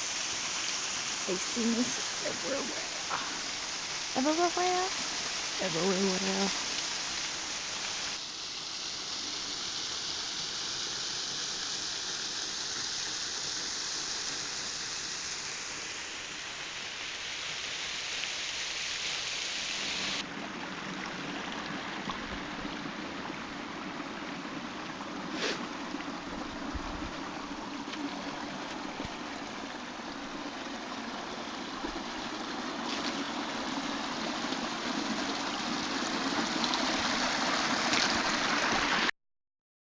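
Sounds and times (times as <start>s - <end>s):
waterfall and creek rushing: 0.0s - 39.1s.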